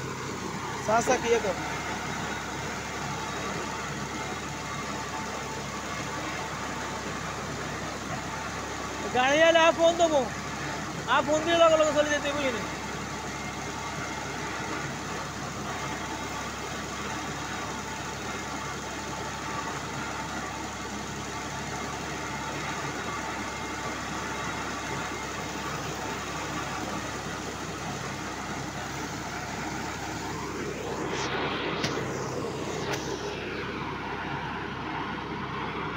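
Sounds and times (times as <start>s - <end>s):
engine running steadily: 0.0s - 35.9s.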